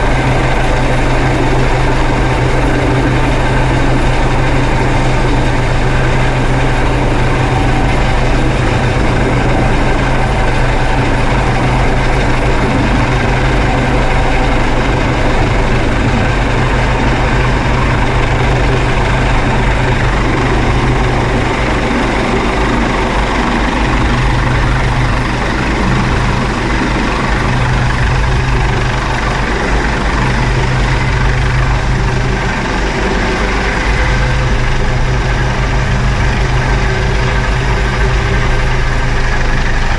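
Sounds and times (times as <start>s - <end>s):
helicopter hovering: 0.0s - 39.9s.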